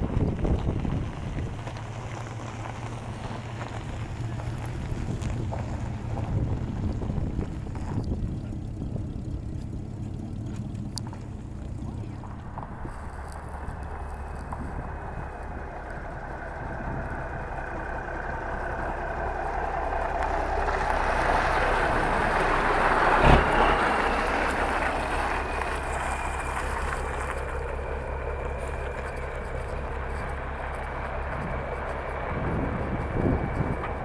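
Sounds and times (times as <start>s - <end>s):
car driving past: 0.6s - 34.0s.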